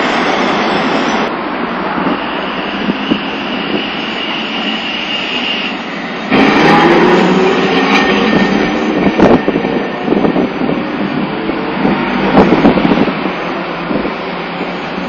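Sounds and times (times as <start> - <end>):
street noise: 0.0 - 15.0
streetcar whine: 0.0 - 15.0
tram rumble: 0.0 - 15.0.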